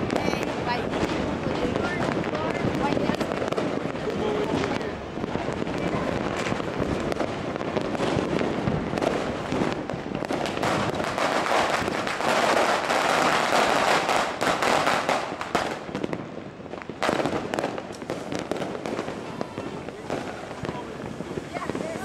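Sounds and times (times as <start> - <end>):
firecrackers crackling: 0.0 - 22.0
sharp firework bangs: 0.0 - 22.0.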